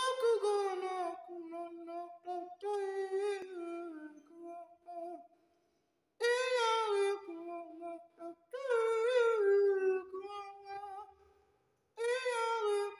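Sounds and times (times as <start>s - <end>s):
man singing in puppet voice: 0.0s - 5.2s, 6.2s - 11.1s, 12.0s - 12.9s.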